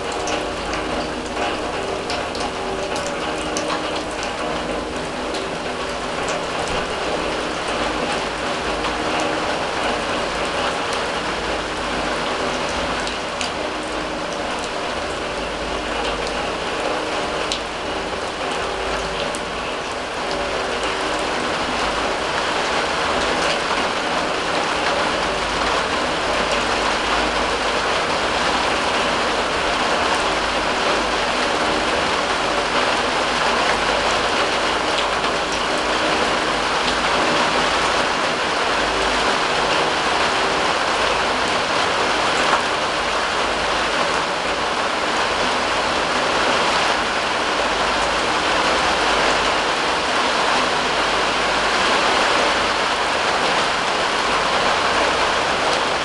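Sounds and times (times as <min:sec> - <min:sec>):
raindrops ticking on steel drum: 0:00.0 - 0:56.0
steady rain falling: 0:00.0 - 0:56.0.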